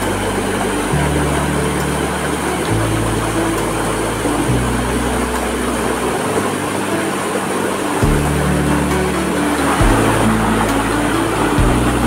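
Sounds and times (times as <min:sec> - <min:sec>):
low held notes: 0:00.0 - 0:12.0
stream rushing over rocks: 0:00.0 - 0:12.0.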